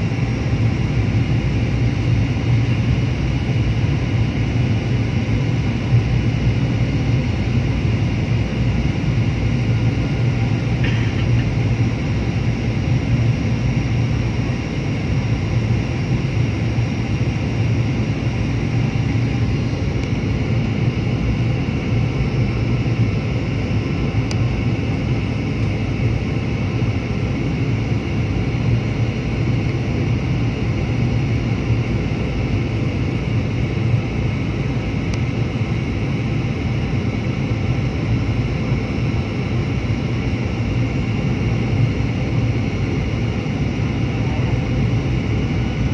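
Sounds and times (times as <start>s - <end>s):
airliner cabin engine drone: 0.0s - 45.9s.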